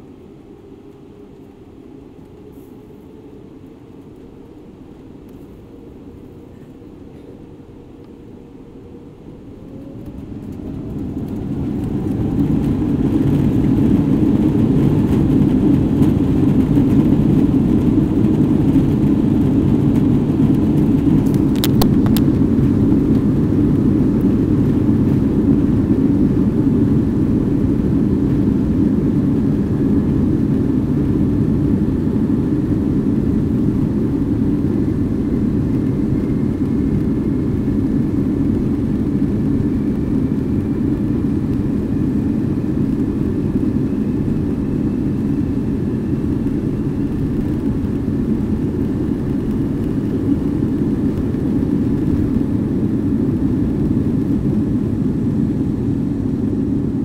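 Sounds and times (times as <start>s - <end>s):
airliner engine rumble: 0.0s - 57.0s
jet engine whine: 0.0s - 57.0s.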